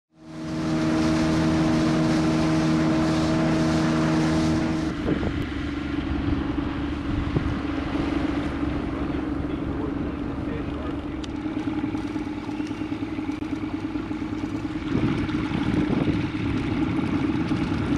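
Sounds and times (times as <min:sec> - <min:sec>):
boat motor running: 0:00.1 - 0:17.9
wind rumbling on microphone: 0:00.4 - 0:17.9.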